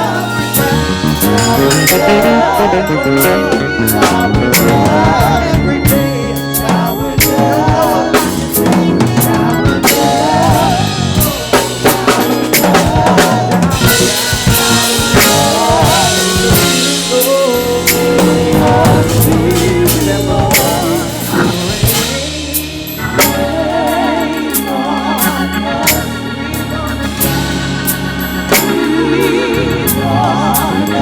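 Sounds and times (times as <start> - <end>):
drum kit playing: 0.0 - 31.0
low bass notes: 0.0 - 31.0
sustained organ: 0.0 - 31.0.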